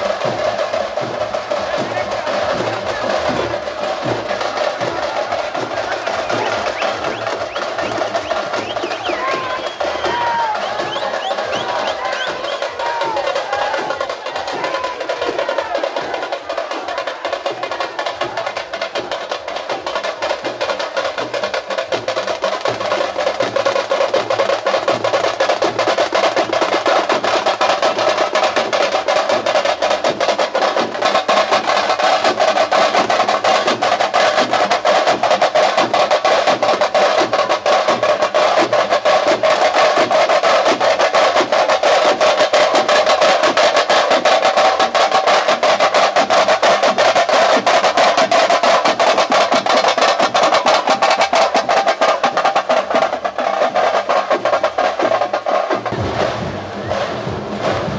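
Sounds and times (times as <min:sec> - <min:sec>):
frame drums beaten with sticks: 0:00.0 - 0:57.9.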